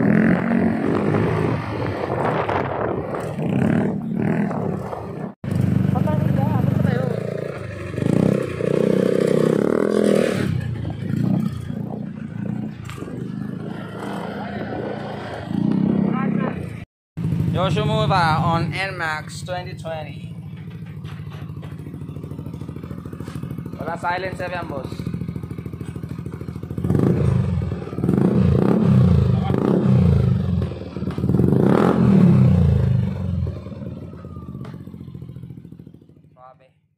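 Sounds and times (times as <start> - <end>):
scooter engine revving: 0.0 - 36.4.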